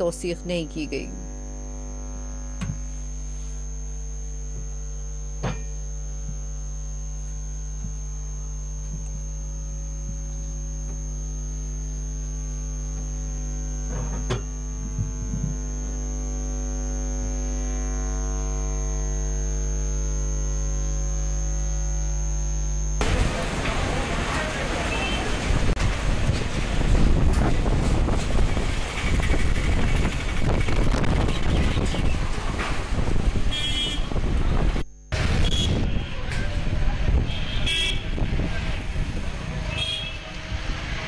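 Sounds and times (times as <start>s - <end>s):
electrical mains hum: 0.0s - 40.2s
thin high whine: 0.0s - 41.0s.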